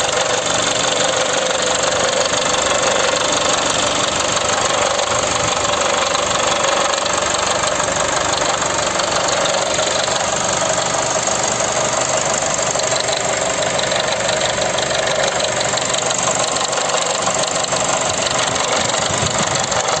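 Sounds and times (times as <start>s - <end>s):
diesel engine idling with clatter: 0.0s - 20.0s.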